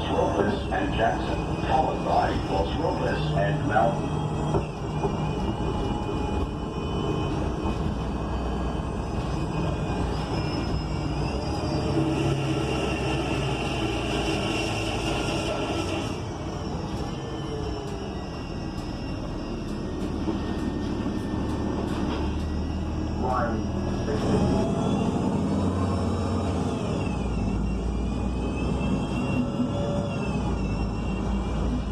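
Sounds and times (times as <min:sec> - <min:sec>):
bus engine drone: 0:00.0 - 0:31.9
rising whine: 0:00.0 - 0:31.9
road noise: 0:00.0 - 0:31.9.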